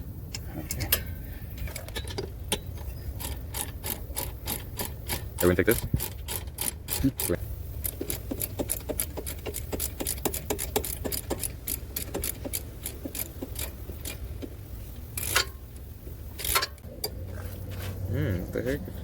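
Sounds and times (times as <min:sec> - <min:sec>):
scraping rattles: 0:00.4 - 0:19.0
ratchet wrench clicking: 0:00.7 - 0:17.2.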